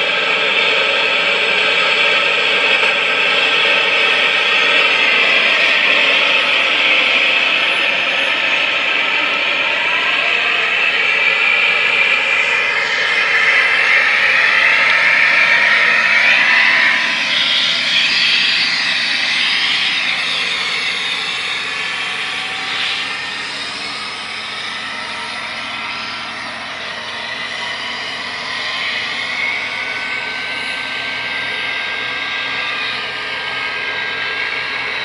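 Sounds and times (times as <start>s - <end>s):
model helicopter rotor whine: 0.0s - 35.0s
turbine sound effect: 0.0s - 35.0s.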